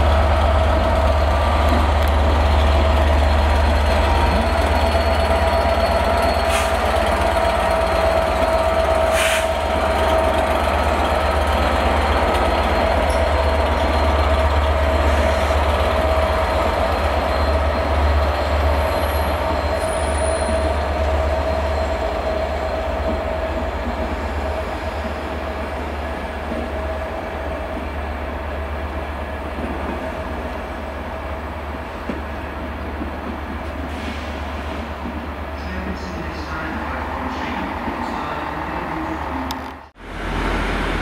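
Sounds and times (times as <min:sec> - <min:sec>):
diesel locomotive rumble: 0:00.0 - 0:41.0.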